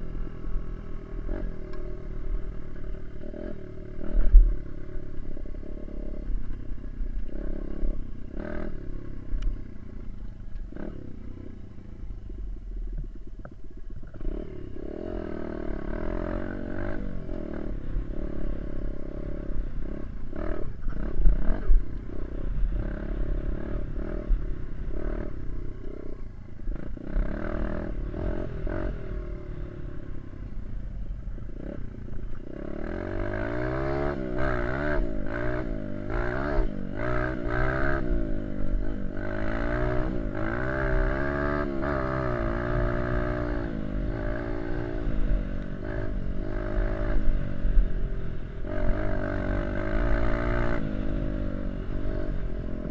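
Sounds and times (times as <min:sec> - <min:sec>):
dirt bike engine revving: 0:00.0 - 0:10.0, 0:14.1 - 0:30.6, 0:31.3 - 0:52.9.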